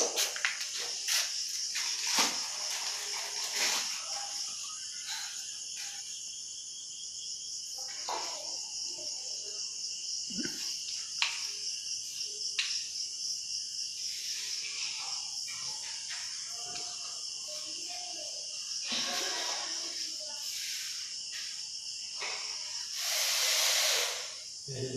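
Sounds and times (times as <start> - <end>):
crickets chirring: 0.0 - 24.9.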